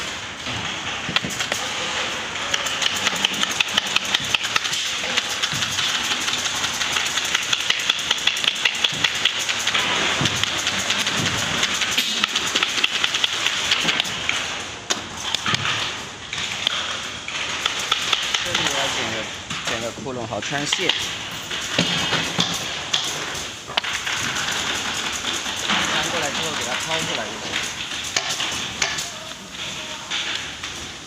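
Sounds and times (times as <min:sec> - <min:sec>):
steady machinery hum: 0:00.0 - 0:31.0.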